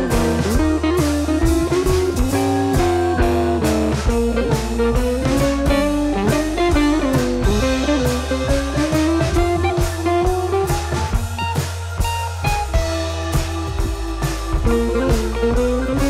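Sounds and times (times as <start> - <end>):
song with guitar and drums: 0.0 - 16.0.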